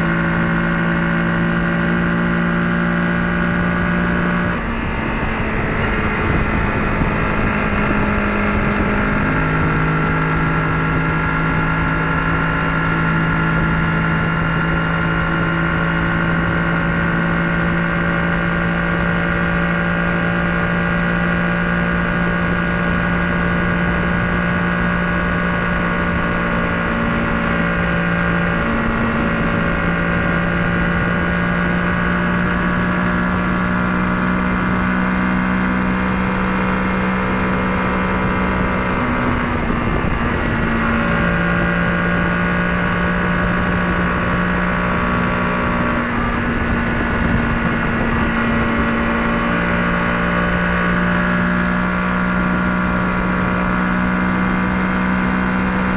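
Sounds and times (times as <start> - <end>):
motorcycle engine cruising: 0.0 - 55.9
wind and road noise: 0.0 - 55.9.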